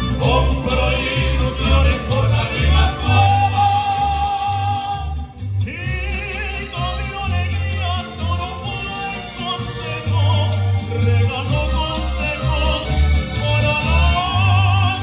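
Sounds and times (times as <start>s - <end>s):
pulsing bass line: 0.0s - 15.0s.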